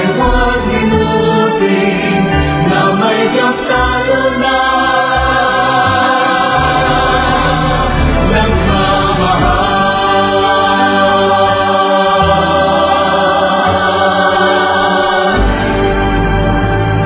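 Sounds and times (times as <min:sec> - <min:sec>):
choir singing a hymn: 0:00.0 - 0:17.0.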